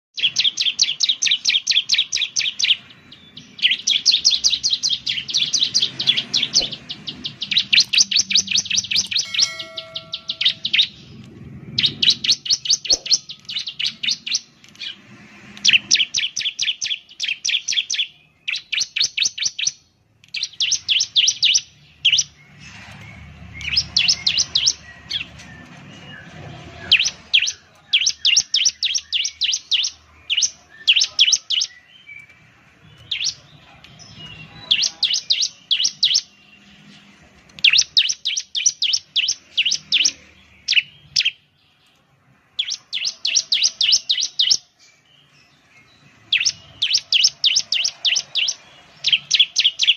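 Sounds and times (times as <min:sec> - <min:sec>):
bird singing fast trills: 0:00.2 - 0:37.0, 0:37.6 - 0:41.8, 0:42.5 - 0:49.9.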